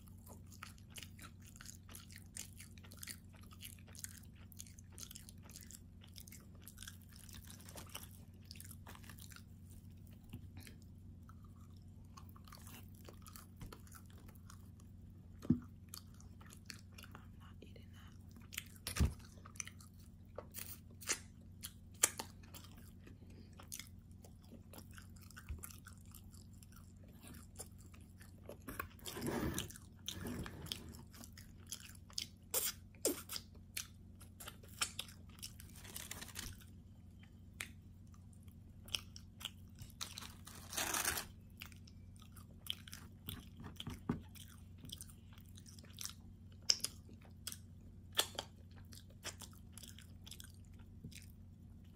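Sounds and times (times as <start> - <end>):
close chewing and biting: 0.0 - 51.9
low steady hum: 0.0 - 51.9.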